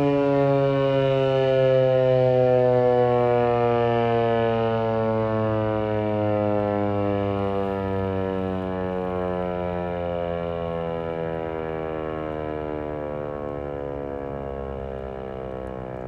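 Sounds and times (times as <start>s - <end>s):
tornado siren winding down: 0.0s - 16.0s.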